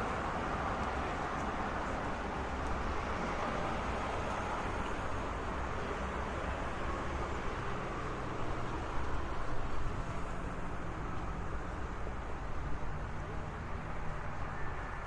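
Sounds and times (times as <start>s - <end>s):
passing cars traffic: 0.0s - 15.0s.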